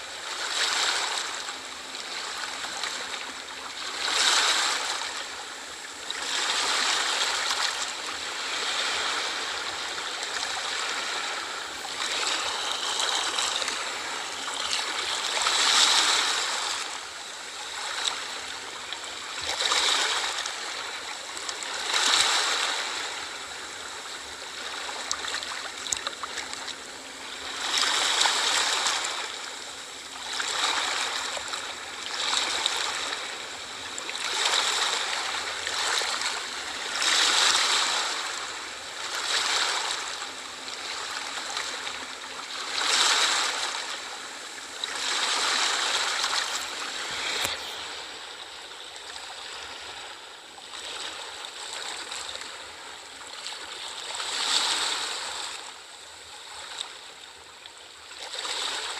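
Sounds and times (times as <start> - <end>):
small waves washing onto shore: 0.0 - 57.5.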